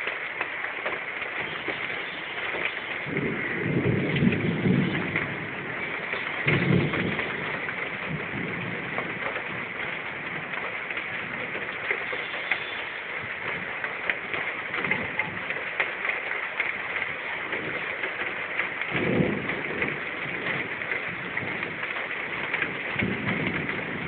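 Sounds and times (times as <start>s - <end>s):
heavy rain with drips: 0.0s - 24.0s
low rumble of thunder: 1.4s - 24.0s.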